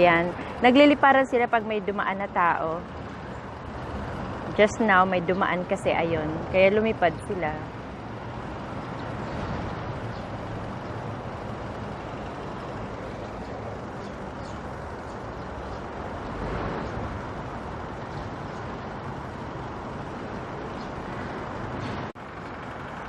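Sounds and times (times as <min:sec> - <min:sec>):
road traffic din: 0:00.0 - 0:23.0
vehicle passing close: 0:00.0 - 0:23.0.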